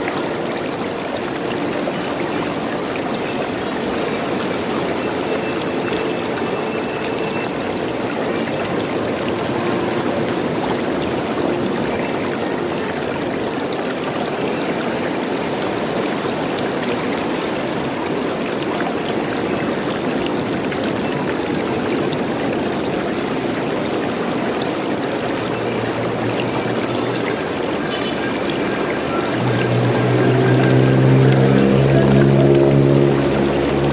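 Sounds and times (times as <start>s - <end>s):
running water gurgling: 0.0s - 33.9s.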